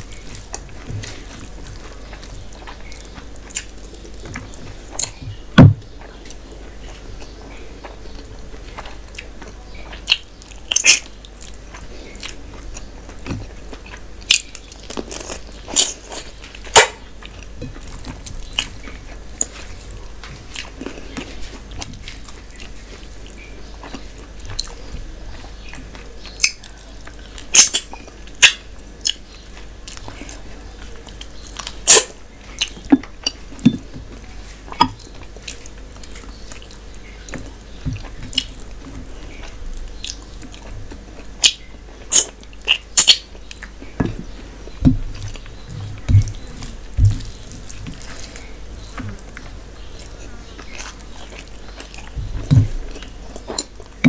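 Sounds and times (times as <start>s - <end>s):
chewing with mouth clicks: 0.0s - 5.2s, 6.0s - 44.0s, 44.6s - 54.0s.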